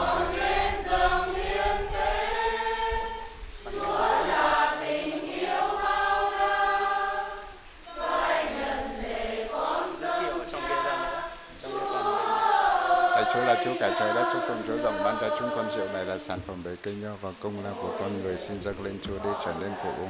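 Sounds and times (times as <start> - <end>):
choir singing a hymn: 0.0 - 20.0.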